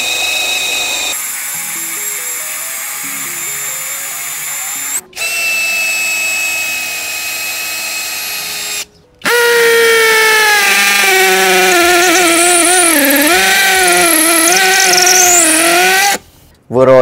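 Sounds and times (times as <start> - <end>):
cordless drill motor whining: 0.0 - 16.2.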